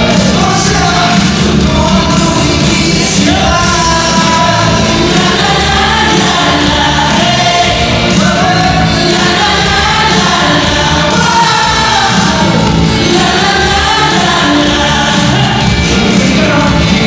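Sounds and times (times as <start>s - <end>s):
loud backing track: 0.0s - 17.0s
men singing together: 0.0s - 17.0s.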